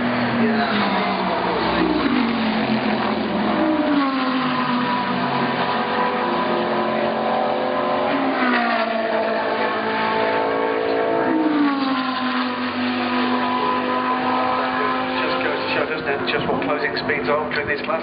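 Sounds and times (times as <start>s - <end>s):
race car engines at high revs: 0.0s - 18.0s.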